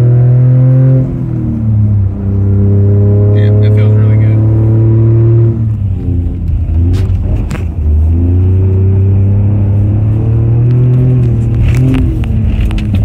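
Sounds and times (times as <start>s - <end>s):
car engine pulling under load: 0.0s - 13.0s.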